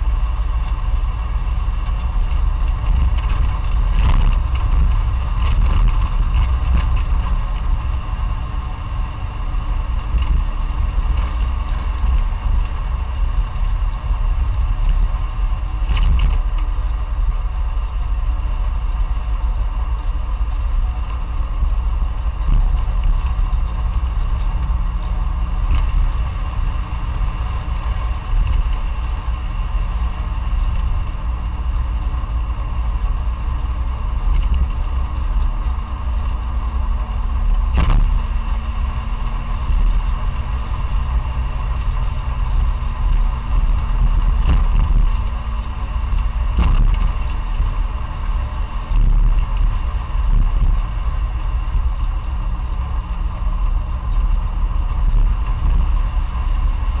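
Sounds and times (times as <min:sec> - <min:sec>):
small car engine rumbling: 0:00.0 - 0:57.0.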